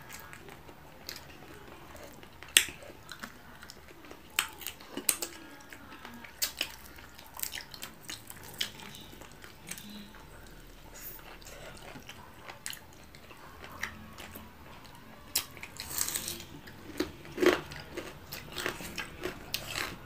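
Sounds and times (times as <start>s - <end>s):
people chewing and biting: 0.0s - 20.0s.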